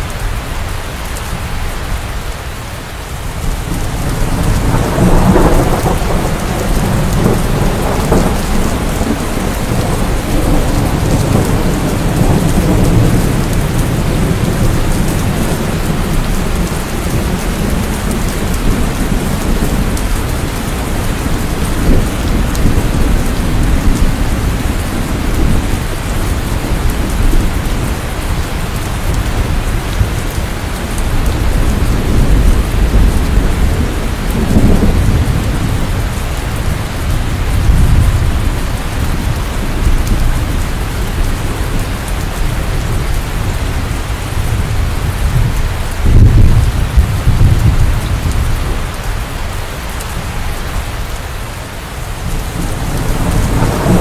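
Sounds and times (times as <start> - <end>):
steady rain: 0.0 - 54.0
thunder rumbling: 3.1 - 54.0.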